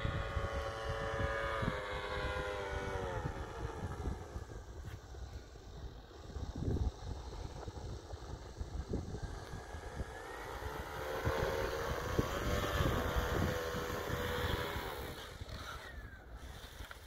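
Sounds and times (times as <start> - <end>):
model aircraft propeller drone: 0.0 - 17.0.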